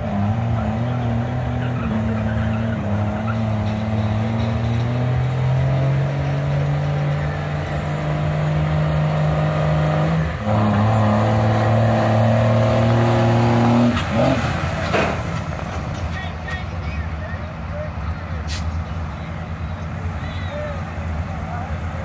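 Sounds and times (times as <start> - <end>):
diesel engine at full throttle: 0.0 - 22.0.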